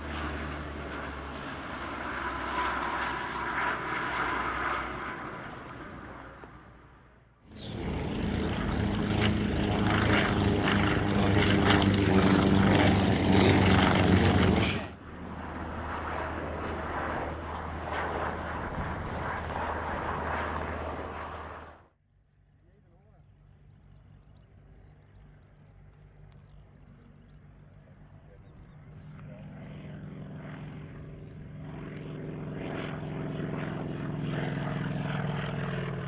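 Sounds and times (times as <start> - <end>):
helicopter rotors and turbines: 0.0 - 36.0
turboprop aircraft passing: 0.0 - 36.0.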